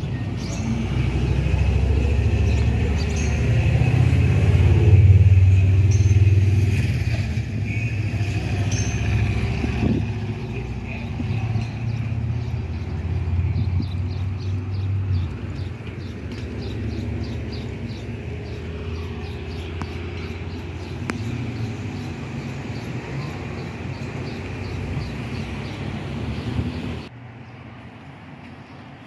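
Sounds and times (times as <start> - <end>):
street traffic rumbling: 0.0 - 29.0.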